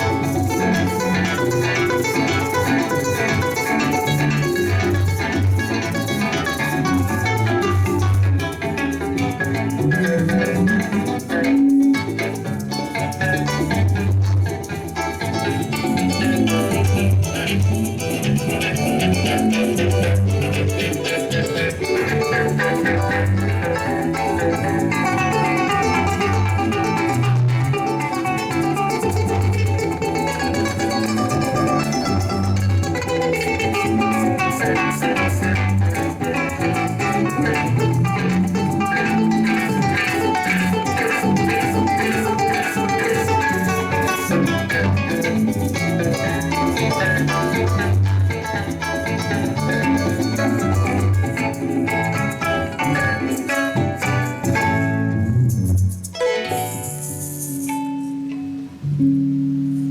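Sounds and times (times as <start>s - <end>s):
maracas shaking: 0.0s - 58.2s
harp melody and bass: 0.0s - 59.9s
strummed cuatro: 0.0s - 59.9s.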